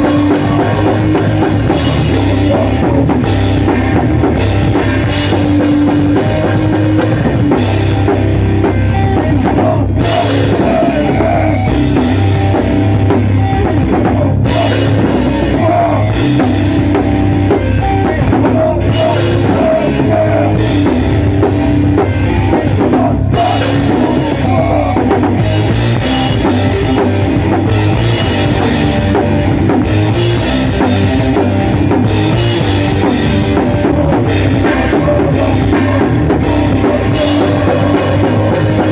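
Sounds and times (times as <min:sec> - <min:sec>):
distorted electric guitars: 0:00.0 - 0:38.9
drum kit fast beat: 0:00.0 - 0:38.9
punk metal band playing: 0:00.0 - 0:38.9.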